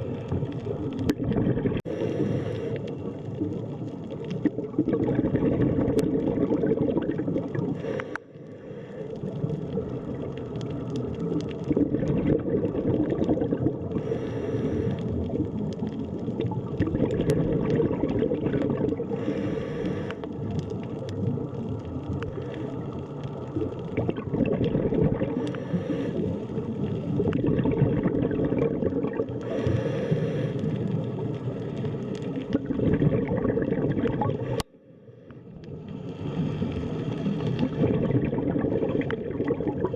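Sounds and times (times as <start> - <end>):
underwater gurgling rumble: 0.0 - 39.9.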